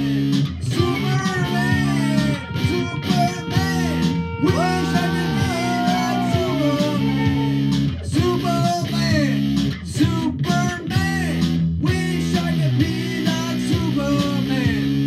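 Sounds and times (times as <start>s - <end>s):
electric guitars playing rock riff: 0.0s - 15.0s.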